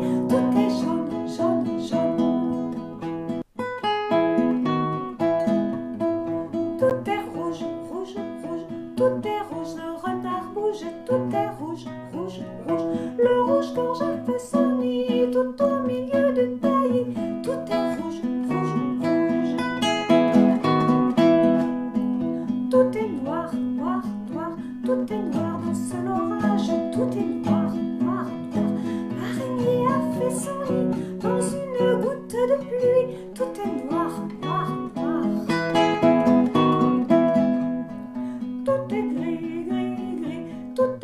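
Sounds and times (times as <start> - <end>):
woman singing: 0.0 - 2.8, 6.0 - 41.0
strummed acoustic guitar: 0.0 - 41.0.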